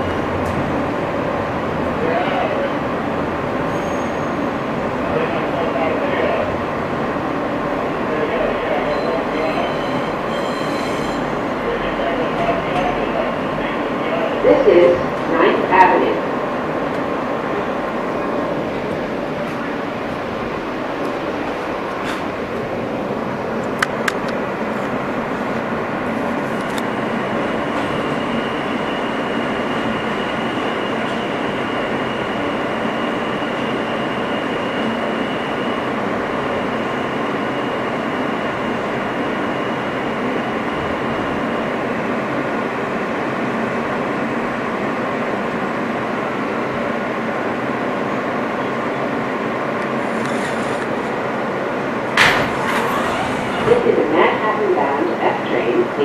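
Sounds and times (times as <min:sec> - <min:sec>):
subway car interior noise: 0:00.0 - 0:56.0.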